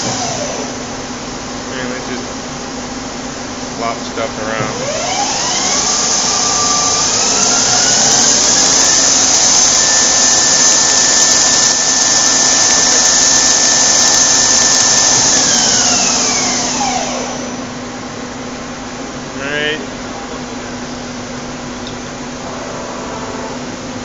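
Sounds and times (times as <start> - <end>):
lathe spindle whine: 0.0 - 2.2, 3.7 - 18.9, 20.0 - 24.0.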